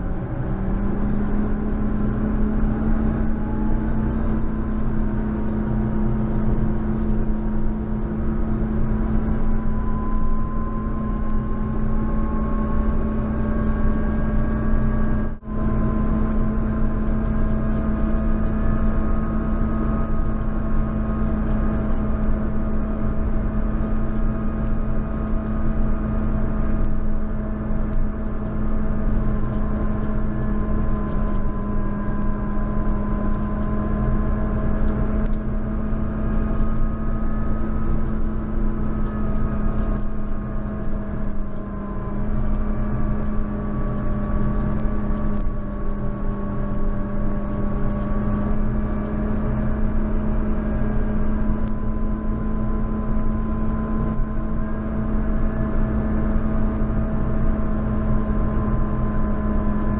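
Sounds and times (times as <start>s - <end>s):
tractor engine drone: 0.0s - 59.9s
whining tones: 0.0s - 59.9s.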